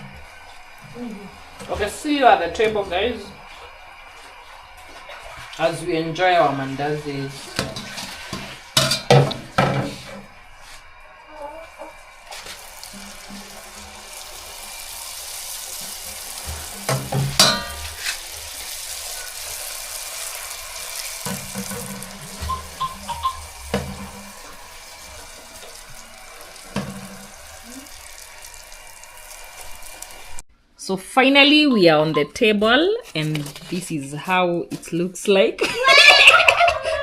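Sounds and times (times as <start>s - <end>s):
tap water running: 0.0s - 30.4s.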